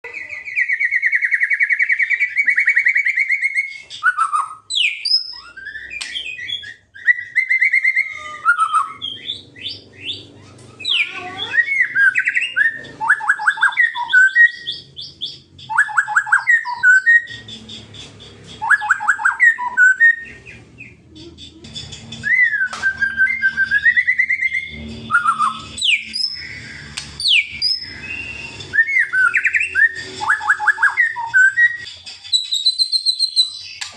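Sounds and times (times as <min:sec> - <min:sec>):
bird singing whistled phrases: 0:00.2 - 0:10.2, 0:10.8 - 0:17.5, 0:18.6 - 0:20.6, 0:22.2 - 0:33.9.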